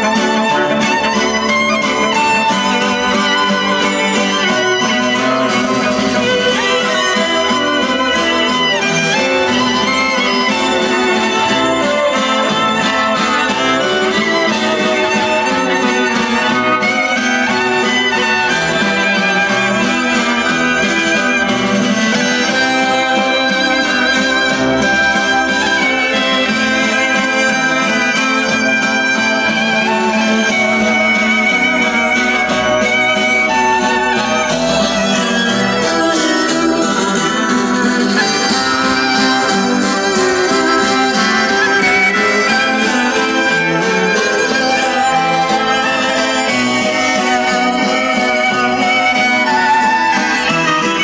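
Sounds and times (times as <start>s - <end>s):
guitar: 0.0s - 51.0s
violin music: 0.0s - 51.0s.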